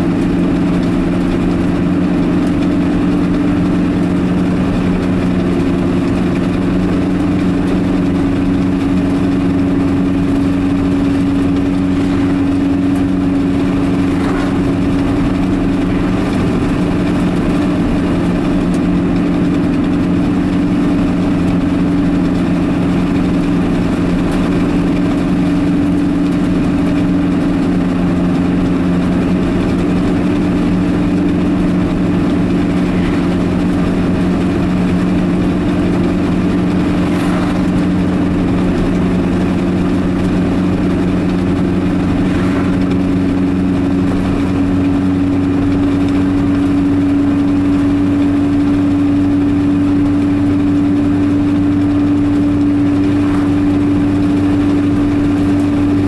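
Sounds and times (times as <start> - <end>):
car engine and tyre hum: 0.0 - 56.0
truck passing: 0.0 - 56.0.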